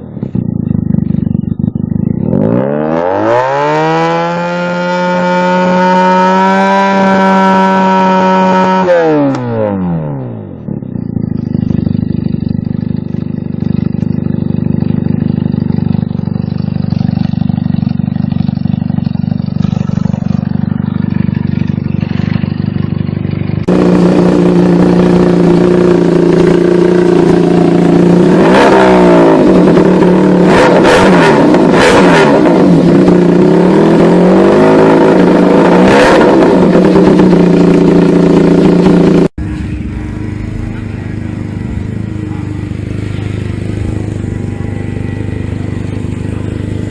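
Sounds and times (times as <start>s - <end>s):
motorcycle engine idling: 0.0s - 3.7s, 4.3s - 35.7s, 36.4s - 46.9s
throttle blips revving engine: 0.0s - 46.9s.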